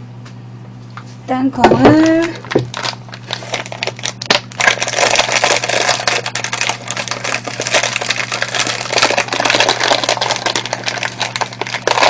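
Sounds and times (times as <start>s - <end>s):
plastic bag crinkling: 1.6s - 12.0s
peanuts crackling: 2.0s - 12.0s.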